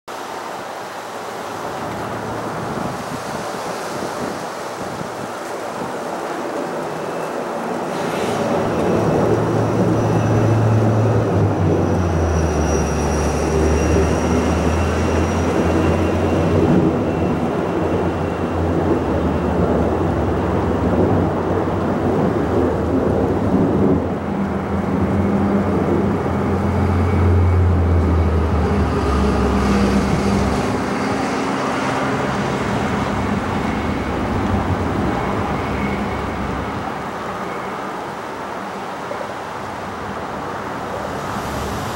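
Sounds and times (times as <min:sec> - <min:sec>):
jet engines at takeoff: 0:00.2 - 0:41.9.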